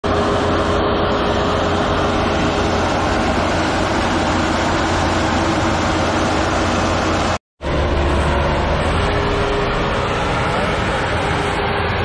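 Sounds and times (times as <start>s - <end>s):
combine harvester mechanical drone: 0.0s - 12.0s.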